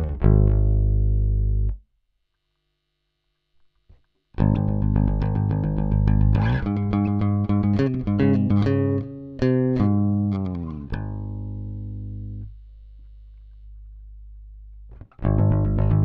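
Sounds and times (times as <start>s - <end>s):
electric bass plucked notes: 0.0s - 1.8s, 4.4s - 16.0s
faint low hum: 0.0s - 16.0s.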